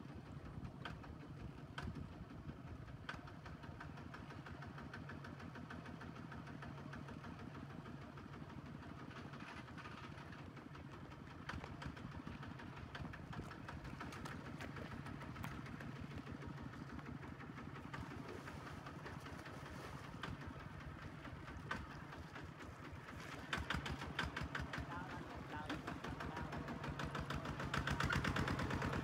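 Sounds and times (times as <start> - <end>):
diesel engine puttering: 0.6 - 29.0.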